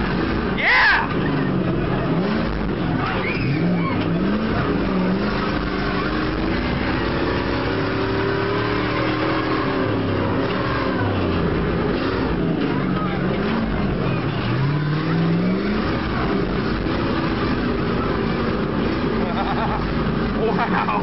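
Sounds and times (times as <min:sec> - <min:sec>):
road and body noise: 0:00.0 - 0:21.0
truck engine running hard: 0:00.0 - 0:21.0.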